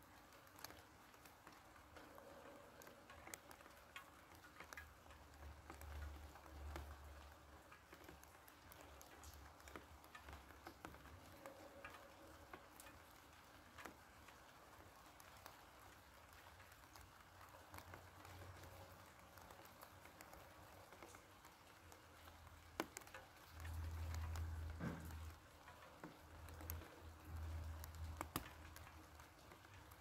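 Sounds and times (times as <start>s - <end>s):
raindrops pattering on leaves: 0.0s - 30.0s
water drip: 0.1s - 30.0s.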